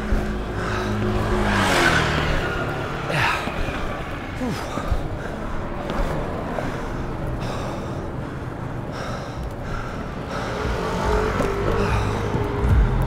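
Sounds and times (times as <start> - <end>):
longboard wheels rolling on pavement: 0.0 - 13.0.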